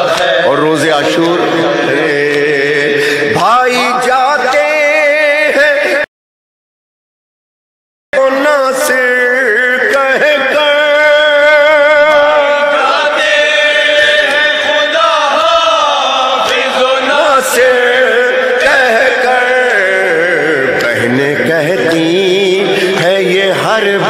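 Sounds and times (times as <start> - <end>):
person chanting a lament: 0.0 - 6.1, 8.2 - 24.0.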